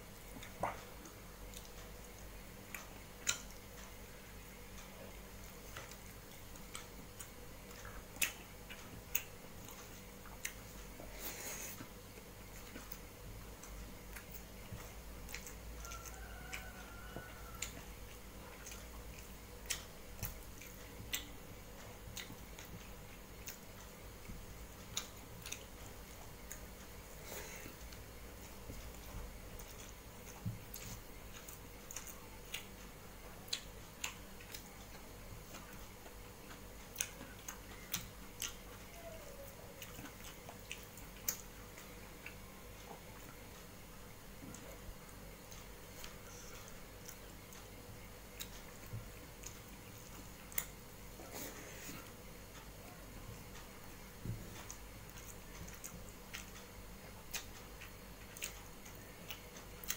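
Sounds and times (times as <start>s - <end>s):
faint low hum: 0.0s - 59.9s
person chewing: 0.1s - 59.9s.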